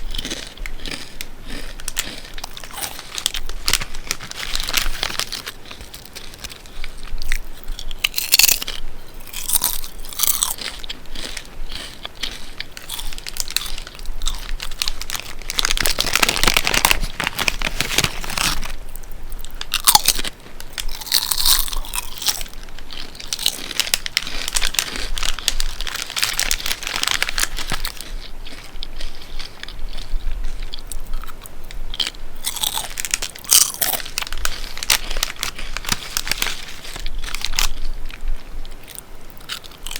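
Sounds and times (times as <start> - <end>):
potato chips crunching: 0.0 - 39.9.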